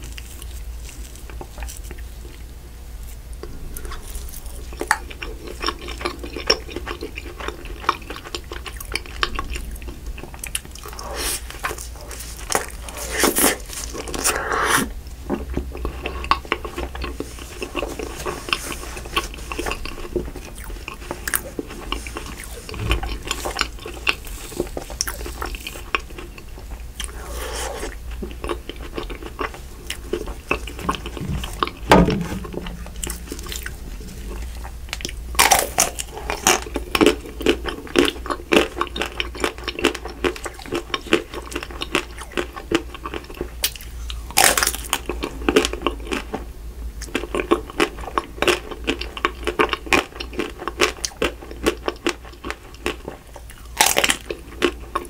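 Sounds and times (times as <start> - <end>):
close chewing with lip smacks: 0.0 - 2.5, 3.4 - 31.9, 32.5 - 46.4, 47.0 - 55.0
cookie crunching: 0.0 - 46.4.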